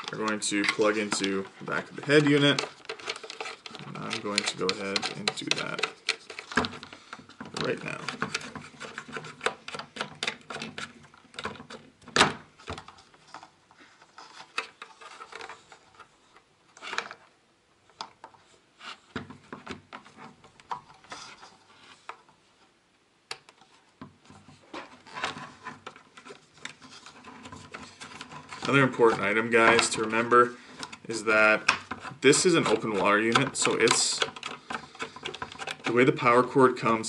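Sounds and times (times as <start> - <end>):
cable plugs clicking and rubbing: 0.0 - 17.3, 23.3 - 37.0.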